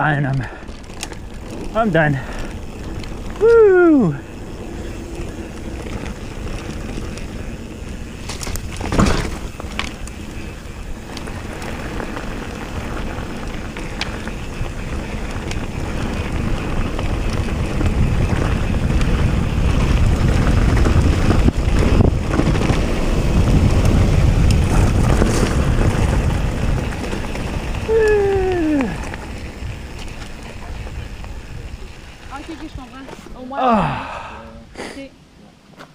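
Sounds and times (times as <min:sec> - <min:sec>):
wind buffeting microphone: 0:00.0 - 0:34.7.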